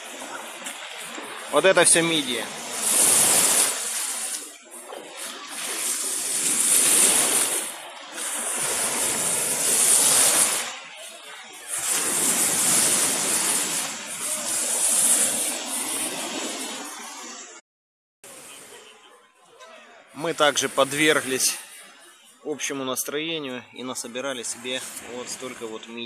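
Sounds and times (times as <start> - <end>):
surf washing over pebbles: 0.0 - 17.5, 20.2 - 22.0, 23.9 - 26.0.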